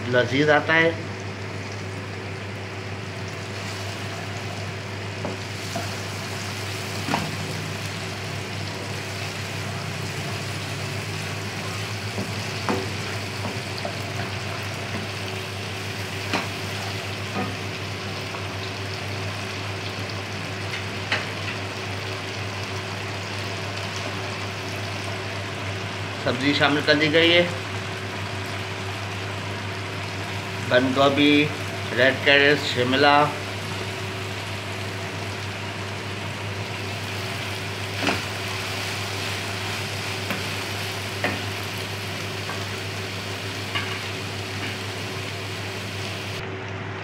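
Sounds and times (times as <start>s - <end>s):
chicken sizzling in oil: 0.3s - 46.4s.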